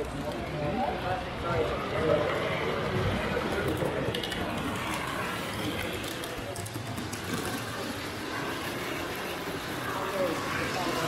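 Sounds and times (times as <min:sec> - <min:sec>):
model train running: 0:00.0 - 0:11.0.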